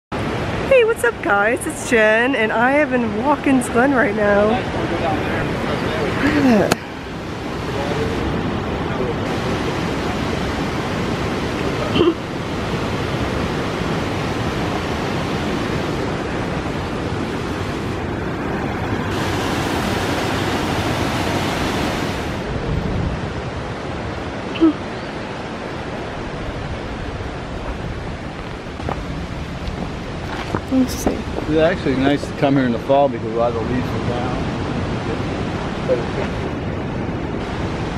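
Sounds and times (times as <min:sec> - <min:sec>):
stream and waterfall rushing: 0:04.2 - 0:37.9.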